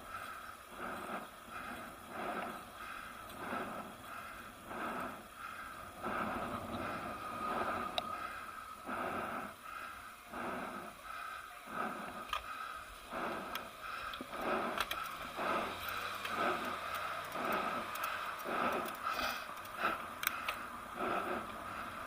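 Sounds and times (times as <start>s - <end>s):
cyclist heavy breathing: 0.0s - 22.0s
faint steady whine: 0.0s - 22.0s.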